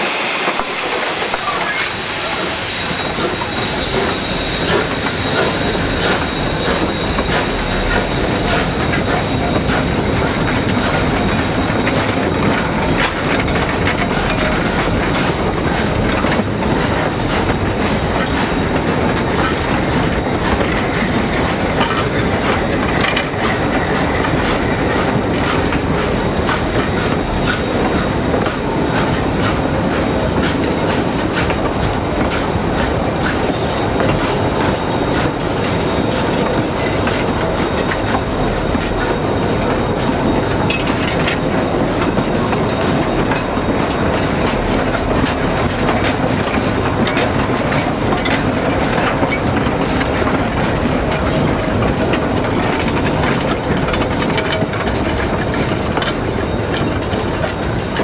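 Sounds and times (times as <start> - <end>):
thin steady whine: 0.0 - 48.1
train wheels clicking on track: 0.0 - 58.0
wheel squeal: 0.0 - 58.0.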